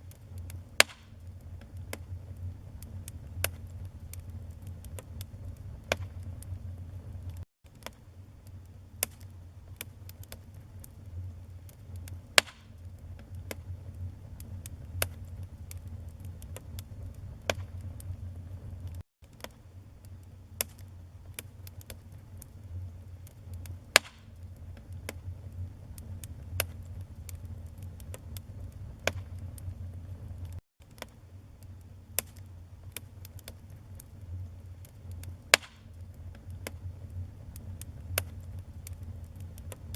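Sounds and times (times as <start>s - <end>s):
fire flame rumble: 0.0s - 39.9s
logs crackling and popping: 0.0s - 39.9s.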